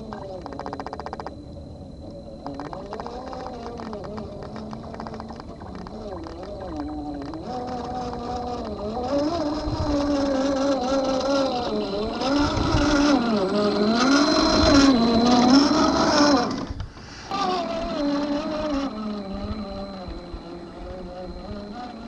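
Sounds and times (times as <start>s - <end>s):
electric motor and gearbox whining: 2.3s - 22.0s.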